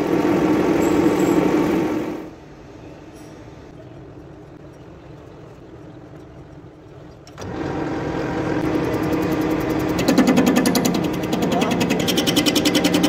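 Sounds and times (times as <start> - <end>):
workshop machinery humming: 0.0 - 6.2, 7.0 - 13.0.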